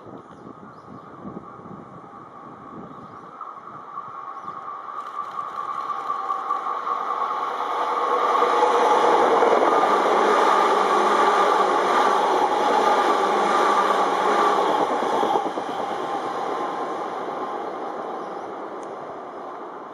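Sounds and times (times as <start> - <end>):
train wheels rolling on rail: 0.0 - 19.9.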